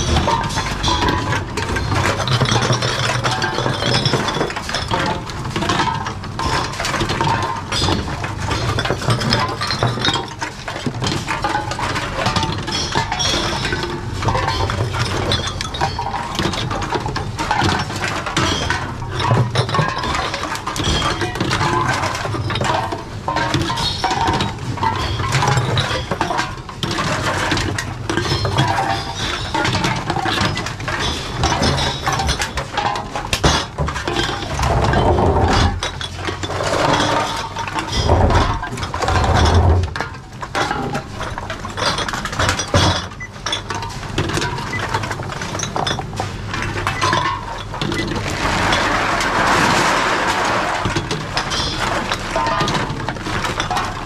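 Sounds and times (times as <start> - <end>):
glass and metal containers clinking: 0.0 - 54.0.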